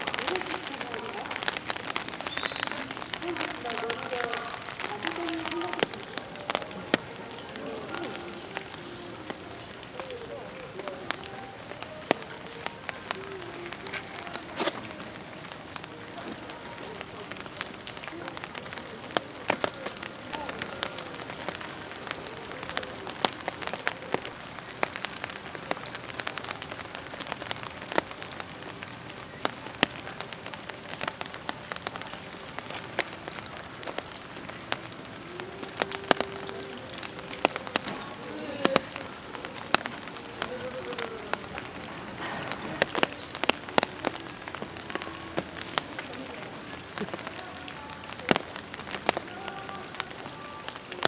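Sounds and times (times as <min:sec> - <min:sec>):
steady rain: 0:00.0 - 0:51.0.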